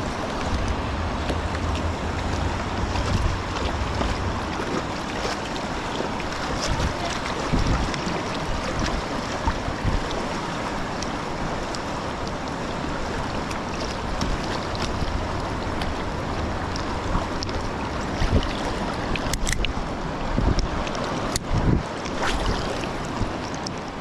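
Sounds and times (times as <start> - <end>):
river water rushing: 0.0 - 24.0
wind buffeting microphone: 0.0 - 24.0.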